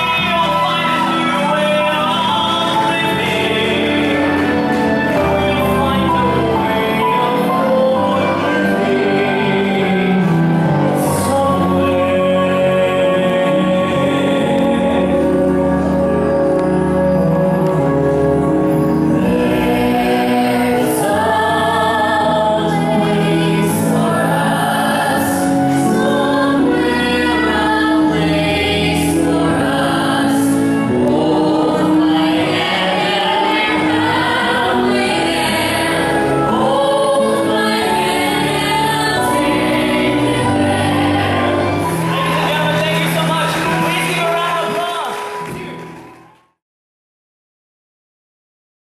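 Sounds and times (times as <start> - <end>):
group singing: 0.0 - 44.3
musical accompaniment: 0.0 - 46.6.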